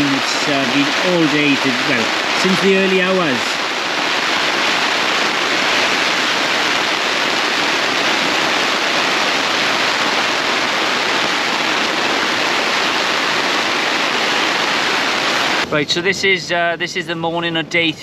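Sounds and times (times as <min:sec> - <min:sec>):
heavy rain drumming on a tent: 0:00.0 - 0:16.4.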